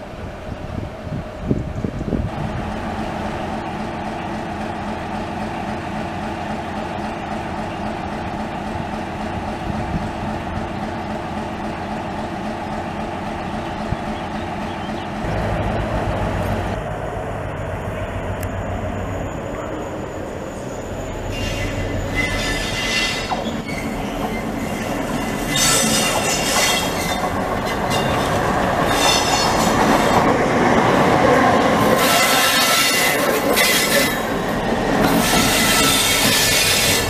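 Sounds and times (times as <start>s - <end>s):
diesel locomotive engine rumble: 0.0s - 37.0s.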